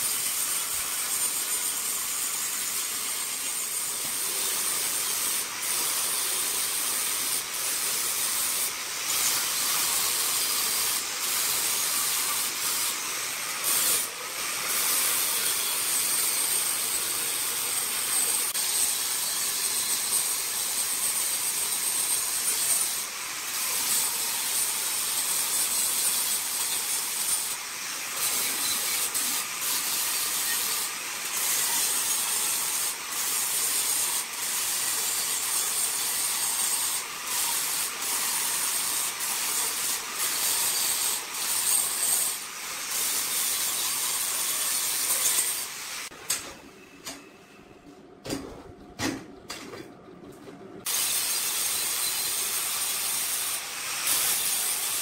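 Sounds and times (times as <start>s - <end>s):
angle grinder grinding steel: 0.0s - 46.2s, 50.9s - 55.0s.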